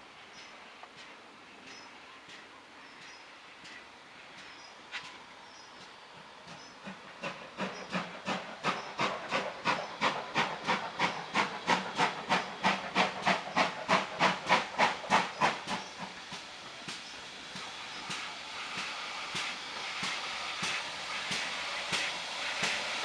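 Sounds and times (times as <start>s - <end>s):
steam locomotive chuffing: 0.4s - 23.0s.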